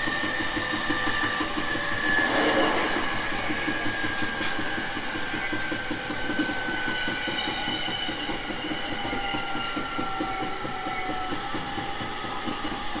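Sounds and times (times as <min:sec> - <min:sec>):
train wheels clickety-clack: 0:00.0 - 0:13.0.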